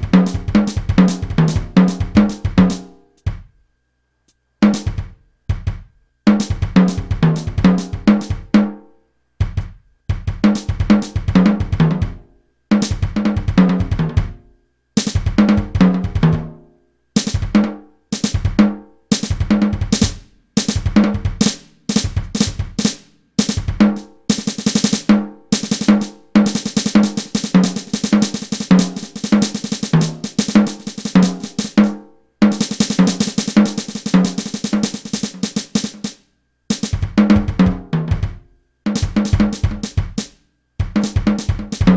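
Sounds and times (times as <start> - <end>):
electronic drum kit: 0.0 - 3.5, 4.7 - 8.5, 9.4 - 14.4, 15.0 - 16.5, 17.2 - 41.9.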